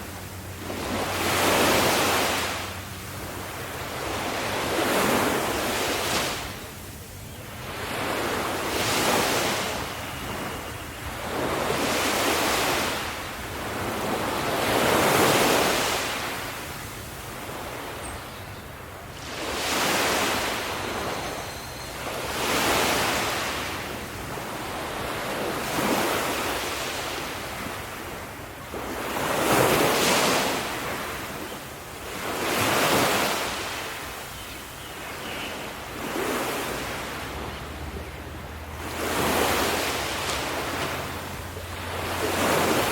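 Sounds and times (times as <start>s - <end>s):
ocean surf breaking on shore: 0.0s - 18.1s, 18.8s - 34.3s, 35.0s - 42.9s.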